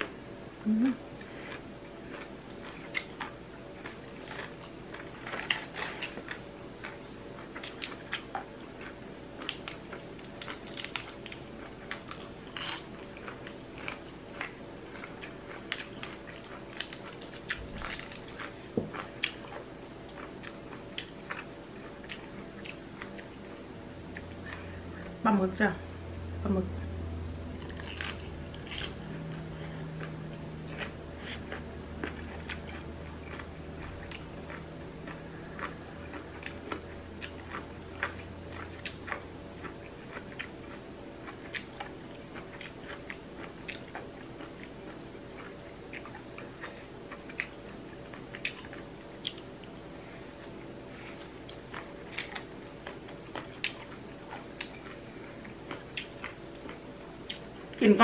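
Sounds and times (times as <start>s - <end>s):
person chewing and biting: 1.2s - 23.3s, 27.6s - 49.8s, 50.4s - 57.6s.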